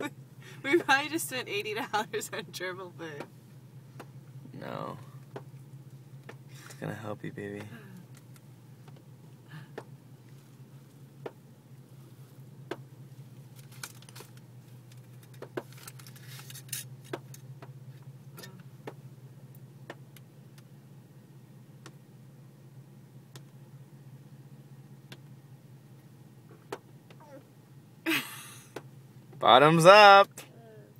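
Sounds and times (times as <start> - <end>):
car cabin hum: 0.0 - 30.9.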